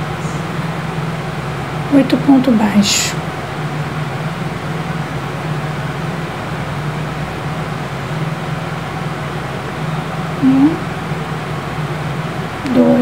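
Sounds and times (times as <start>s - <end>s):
steady background hum and hiss: 0.0s - 13.0s.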